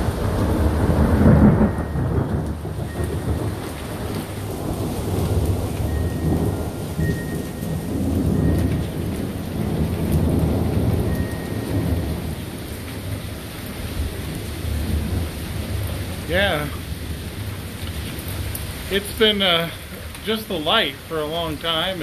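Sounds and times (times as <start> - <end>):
rolling thunder: 0.0 - 19.0
steady rain: 0.0 - 22.0.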